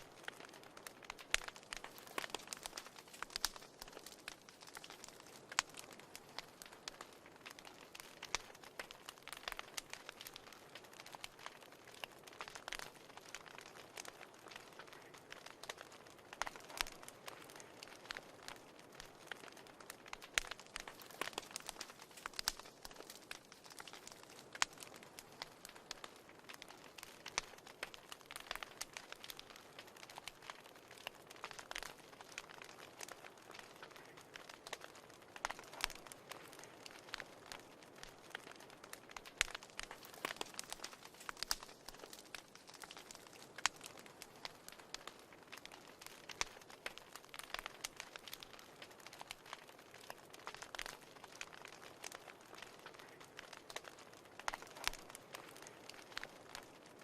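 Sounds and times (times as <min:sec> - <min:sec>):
fire crackling: 0:00.0 - 0:57.0
soft steady hiss: 0:00.0 - 0:57.0.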